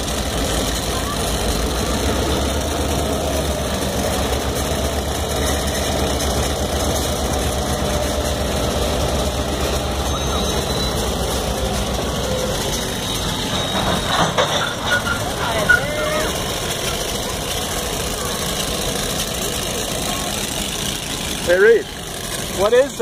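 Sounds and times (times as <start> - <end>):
diesel locomotive engine droning: 0.0 - 23.0
train cars rolling by: 0.0 - 23.0.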